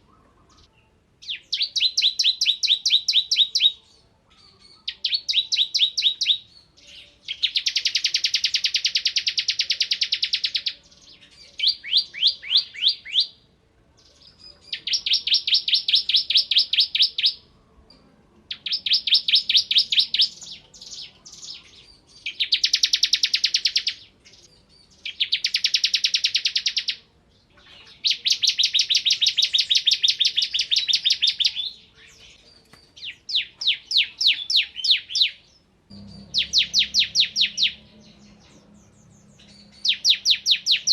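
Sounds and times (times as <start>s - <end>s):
bird singing fast trills: 0.0s - 13.4s, 14.1s - 17.5s, 18.5s - 40.9s.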